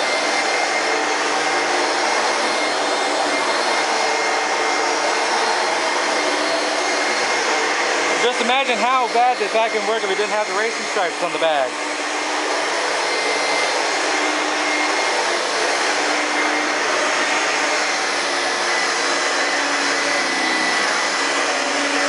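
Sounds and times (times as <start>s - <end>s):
vacuum cleaner running on carpet: 0.0s - 22.0s.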